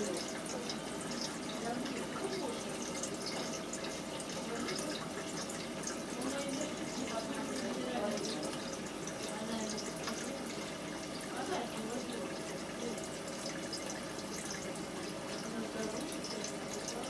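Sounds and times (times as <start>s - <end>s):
aquarium water trickling: 0.0s - 17.0s
small water drips: 0.0s - 17.0s.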